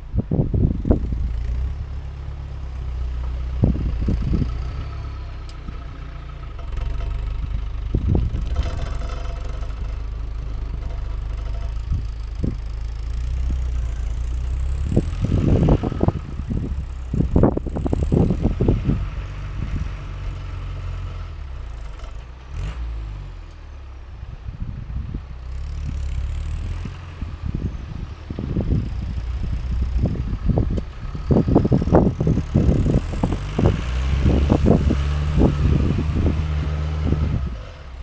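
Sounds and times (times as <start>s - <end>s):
knocks and clunks over rough ground: 0.0s - 23.7s, 24.6s - 38.0s
vehicle engine running low: 0.0s - 38.0s.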